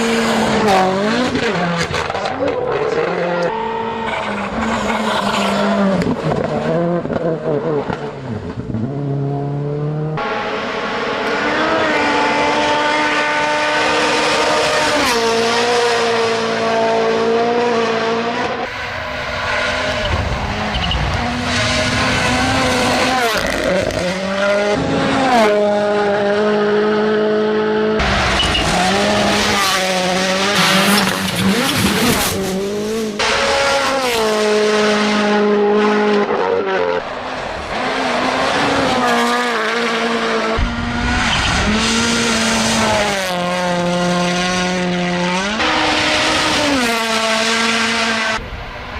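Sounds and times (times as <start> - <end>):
car engines revving hard: 0.0 - 48.9.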